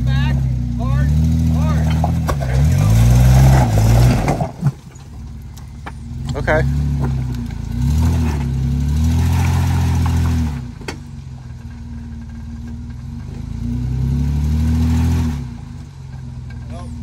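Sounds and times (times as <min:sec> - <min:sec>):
engine revving under load: 0:00.0 - 0:11.3, 0:12.2 - 0:17.0.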